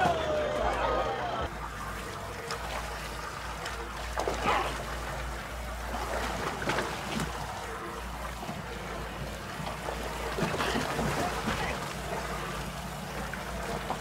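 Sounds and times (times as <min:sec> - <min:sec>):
steady low rumble: 0:00.0 - 0:14.0
water splashing and dripping: 0:00.0 - 0:14.0.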